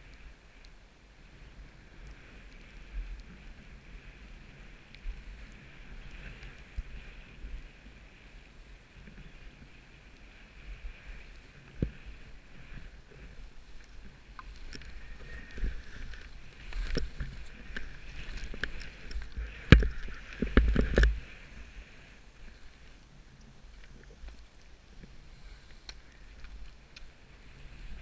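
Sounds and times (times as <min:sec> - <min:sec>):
wind rumble on microphone: 0:00.0 - 0:28.0
skis hissing over snow: 0:01.3 - 0:20.6, 0:21.2 - 0:23.7, 0:24.4 - 0:28.0.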